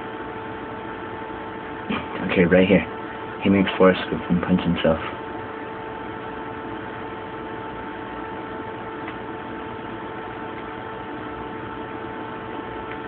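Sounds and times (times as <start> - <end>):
mid-pitched hum: 0.0 - 13.0.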